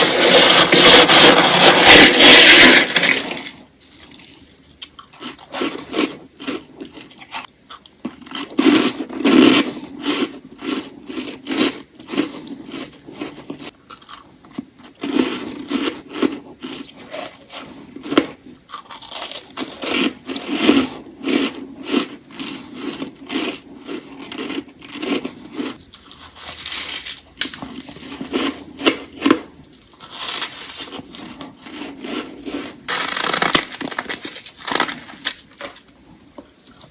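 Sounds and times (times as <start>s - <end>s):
freezer frost crunching: 0.0s - 36.9s.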